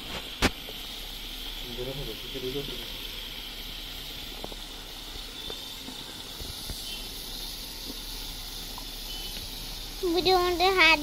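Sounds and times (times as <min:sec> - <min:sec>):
curry sizzling: 0:00.0 - 0:11.0.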